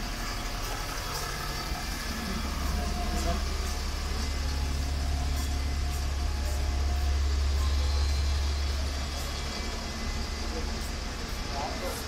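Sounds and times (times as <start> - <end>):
street noise: 0.0 - 12.0
vehicle engine rumble: 0.0 - 12.0.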